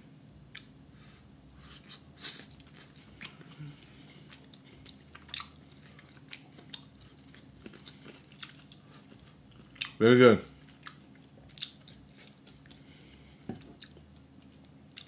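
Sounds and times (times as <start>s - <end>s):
person chewing: 0.4s - 0.8s, 1.4s - 15.0s.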